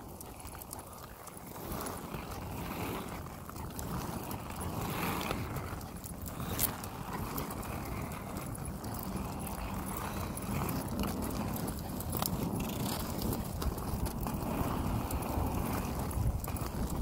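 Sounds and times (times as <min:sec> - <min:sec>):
wind noise on microphone: 0:01.4 - 0:17.0.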